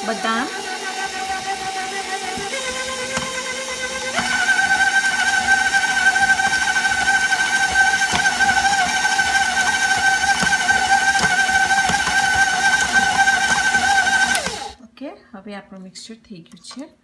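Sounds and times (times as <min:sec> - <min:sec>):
beater knocking: 0:00.0 - 0:14.7
stand mixer motor whine: 0:00.0 - 0:14.8.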